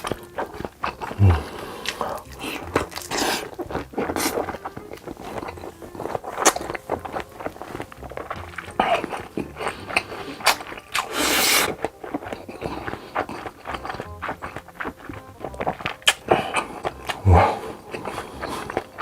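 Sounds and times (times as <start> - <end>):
close-miked eating and chewing: 0.0 - 19.0.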